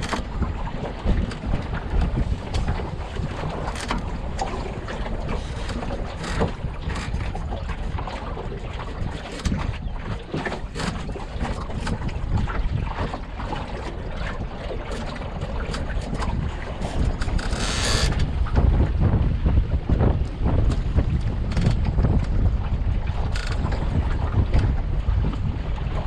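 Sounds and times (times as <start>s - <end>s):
water splashing and slapping: 0.0s - 26.0s
wind buffeting microphone: 0.0s - 26.0s.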